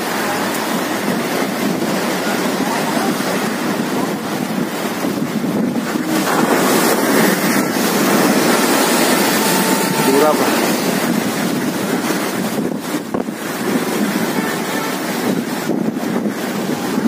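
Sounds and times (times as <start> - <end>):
waves breaking on sea wall: 0.0 - 17.0
wind buffeting microphone: 0.0 - 17.0.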